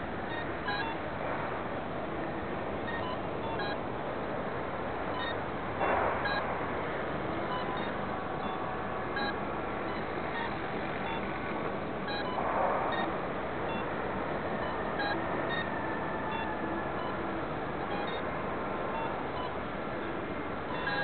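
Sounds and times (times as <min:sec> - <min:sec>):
faint electronic beeps: 0:00.2 - 0:01.2, 0:02.2 - 0:04.0, 0:05.0 - 0:21.0.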